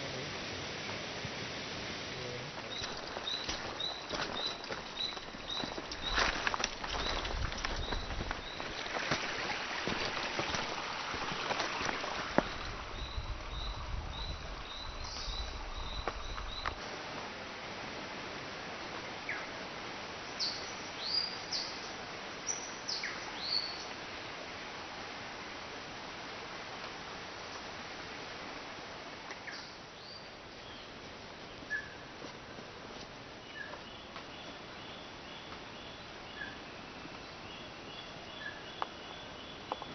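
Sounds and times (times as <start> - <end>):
rustling hiss: 0.0 - 39.9.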